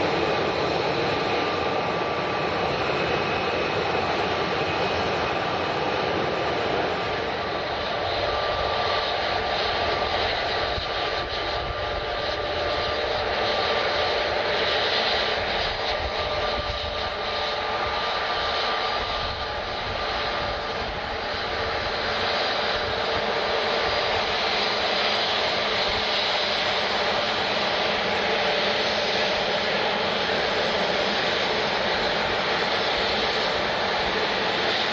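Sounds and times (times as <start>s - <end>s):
jet engines rushing: 0.0s - 34.9s
steady whining tones: 0.0s - 34.9s.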